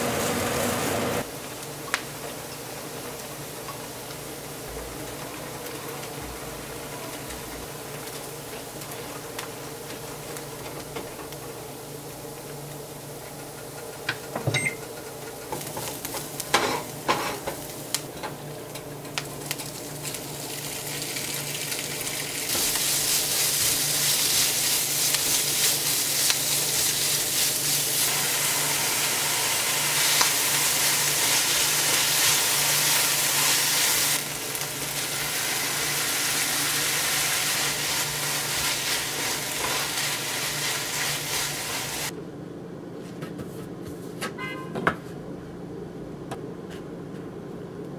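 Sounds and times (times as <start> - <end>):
pork and onion sizzling: 0.0 - 42.1.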